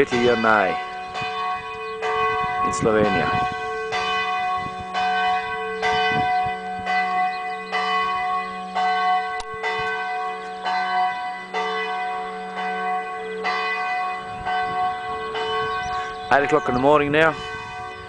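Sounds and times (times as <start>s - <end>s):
church bell ringing: 0.0s - 18.0s.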